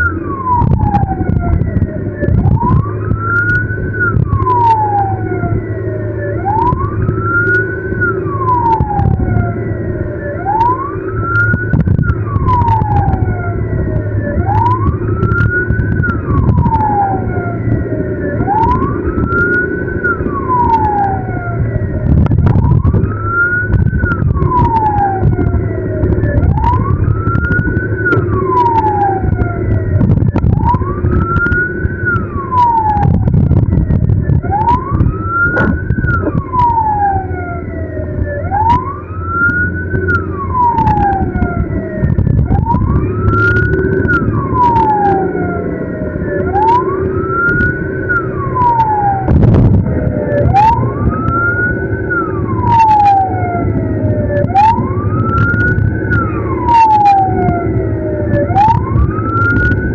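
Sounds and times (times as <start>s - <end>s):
ambulance siren wailing: 0.0s - 59.9s
tyres on wet road: 0.0s - 59.9s
vehicle engine: 0.0s - 59.9s.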